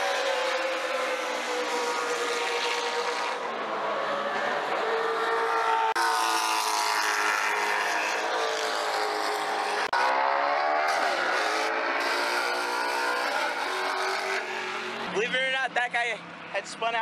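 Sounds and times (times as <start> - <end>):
race car engines running hard: 0.0 - 17.0.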